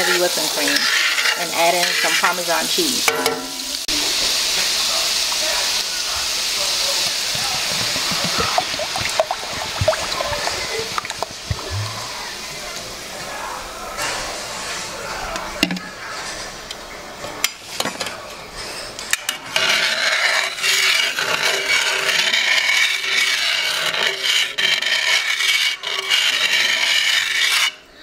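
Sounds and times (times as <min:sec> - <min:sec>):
scraping and stirring in skillet: 0:00.0 - 0:15.1, 0:17.3 - 0:28.0.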